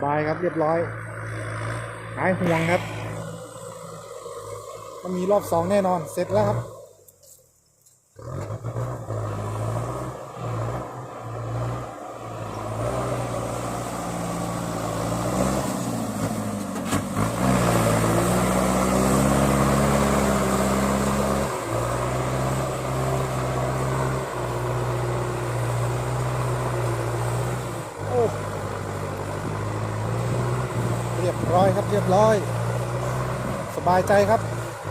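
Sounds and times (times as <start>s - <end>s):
tractor diesel engine under load: 0.0s - 7.3s, 8.1s - 34.9s.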